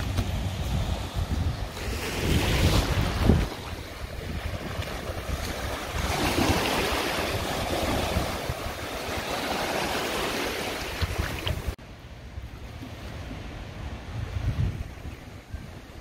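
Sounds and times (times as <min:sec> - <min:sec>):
small waves washing onto beach: 0:00.0 - 0:16.0
wind buffeting microphone: 0:00.0 - 0:16.0.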